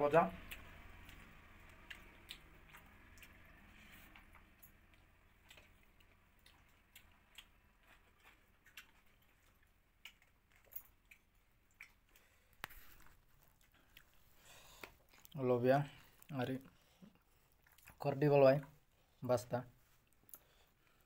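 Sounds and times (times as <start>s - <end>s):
quiet chewing: 0.4s - 19.2s, 19.8s - 21.0s.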